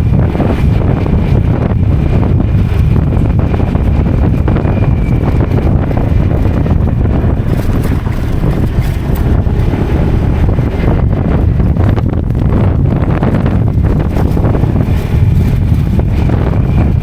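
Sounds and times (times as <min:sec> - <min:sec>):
motorcycle engine and road rumble: 0:00.0 - 0:17.0
wind buffeting microphone: 0:00.0 - 0:17.0.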